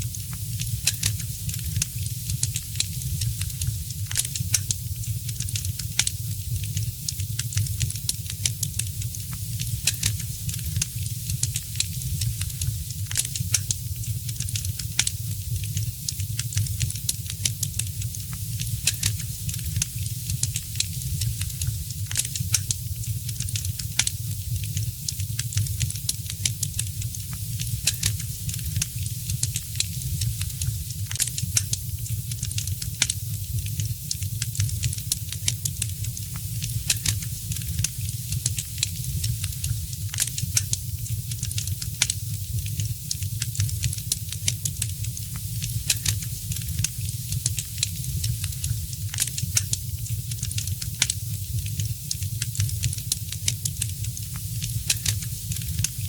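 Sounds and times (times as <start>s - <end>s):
fire crackling: 0.0s - 56.0s
sharp pops and snaps: 0.0s - 56.0s
steady hiss: 0.0s - 56.0s.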